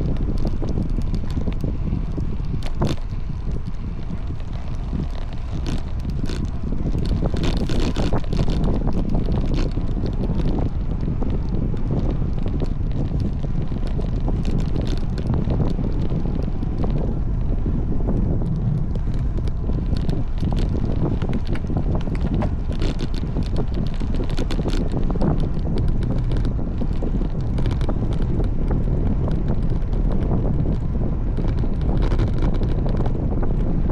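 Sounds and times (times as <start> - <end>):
small ticks and rattles: 0.0 - 33.9
wind buffeting microphone: 0.0 - 33.9.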